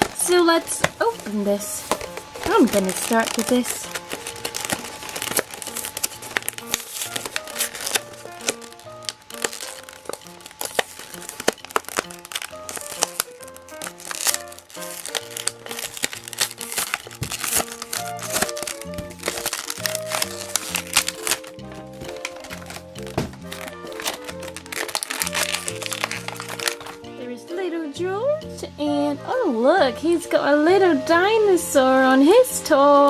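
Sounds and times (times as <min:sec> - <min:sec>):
plastic packaging crinkling: 0:00.0 - 0:27.0
light background music: 0:00.0 - 0:33.0.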